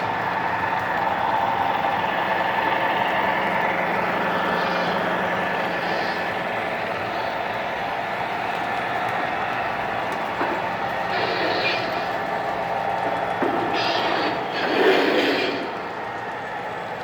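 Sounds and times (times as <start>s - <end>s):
low engine drone: 0.0s - 17.0s
model train wheels rumbling: 0.0s - 17.0s.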